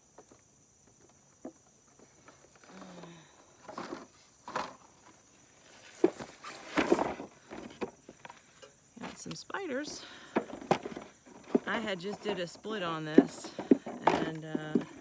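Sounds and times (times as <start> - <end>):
beehive frames being handled: 0.1 - 15.0.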